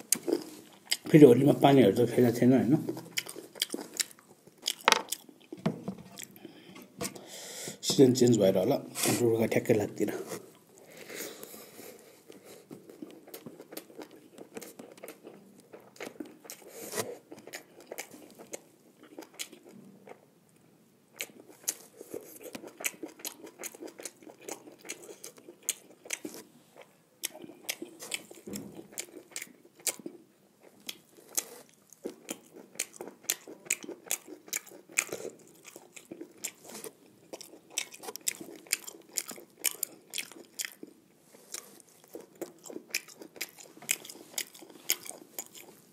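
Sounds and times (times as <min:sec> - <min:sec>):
person chewing: 0:00.0 - 0:01.2, 0:02.8 - 0:07.3, 0:10.3 - 0:20.2, 0:21.1 - 0:45.9.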